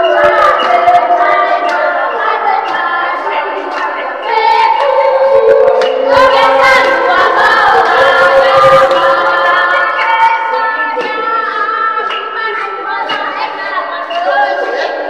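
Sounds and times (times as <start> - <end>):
crowd of women singing: 0.0 - 15.0.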